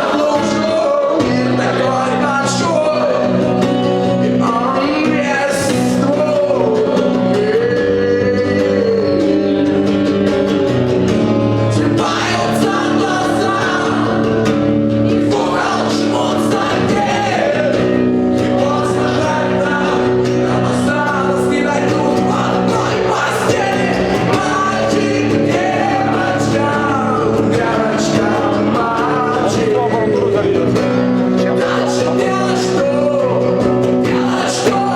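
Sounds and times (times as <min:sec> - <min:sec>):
person singing: 0:00.0 - 0:10.8, 0:11.6 - 0:34.9
acoustic guitar: 0:00.0 - 0:34.9.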